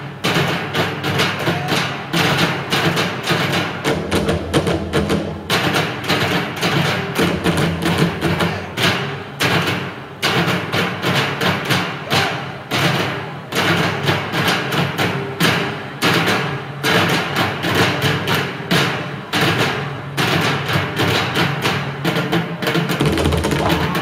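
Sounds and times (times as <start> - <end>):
drumming on barrels: 0.0 - 24.0.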